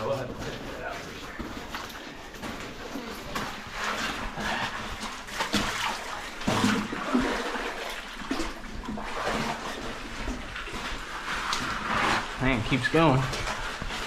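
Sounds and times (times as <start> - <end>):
cave stream water splashing: 0.0 - 14.0.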